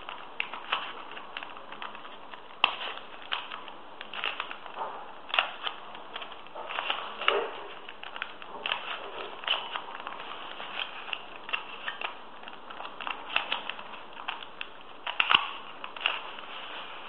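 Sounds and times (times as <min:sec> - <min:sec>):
puzzle cube plastic clicks: 0:00.0 - 0:17.0.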